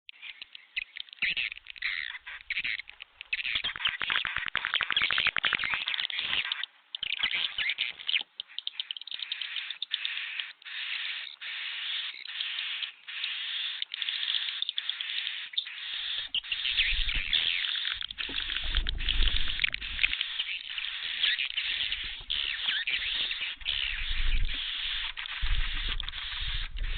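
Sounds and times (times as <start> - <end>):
swiftlets twittering and chirping: 0.1 - 26.9.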